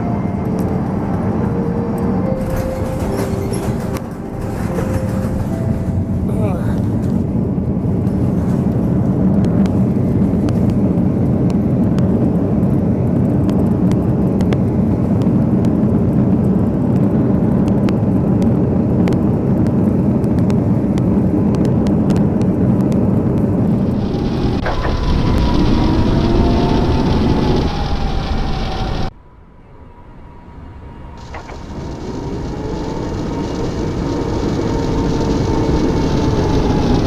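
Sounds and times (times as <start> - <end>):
loud low vehicle rumble: 0.0 - 37.0.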